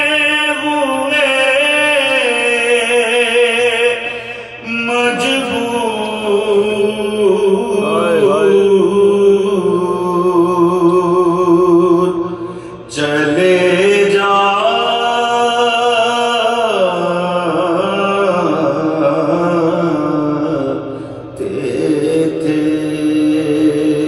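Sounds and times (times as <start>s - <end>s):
man singing long wavering notes: 0.0s - 24.0s
men holding steady sung notes: 0.0s - 24.0s.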